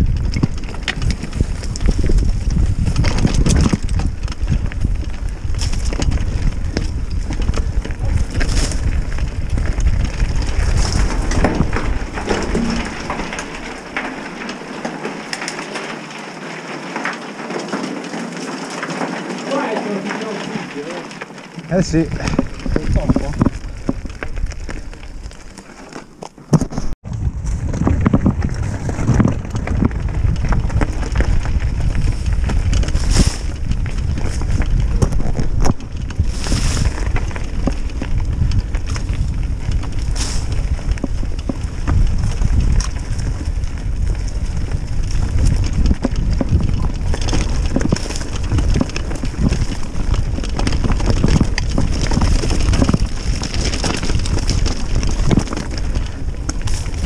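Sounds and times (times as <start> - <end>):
wind buffeting microphone: 0.0 - 14.7, 21.7 - 25.6, 26.9 - 57.0
bike rattling over bumps: 0.0 - 57.0.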